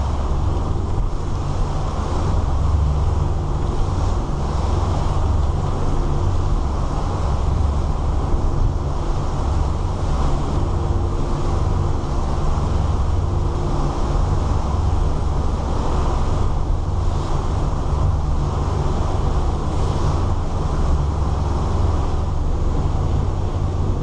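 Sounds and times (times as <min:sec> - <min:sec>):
boat engines rumbling: 0:00.0 - 0:24.0
rushing water: 0:00.0 - 0:24.0
wind: 0:00.0 - 0:24.0.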